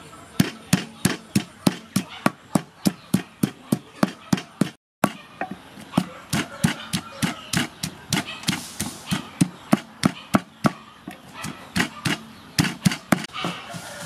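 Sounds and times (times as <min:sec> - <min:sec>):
wooden pestle pounding in mortar: 0:00.4 - 0:13.6.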